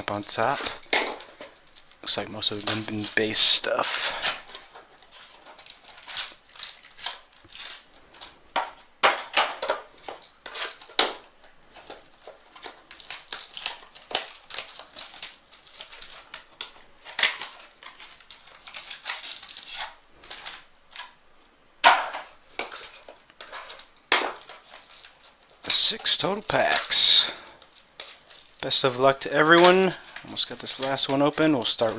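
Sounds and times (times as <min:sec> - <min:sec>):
card wrappers tearing and crinkling: 0:00.0 - 0:31.9.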